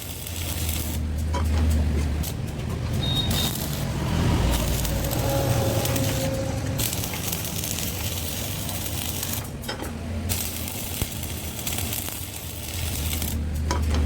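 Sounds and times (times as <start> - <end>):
electric arc welding crackling: 0.0 - 1.2, 1.8 - 13.7.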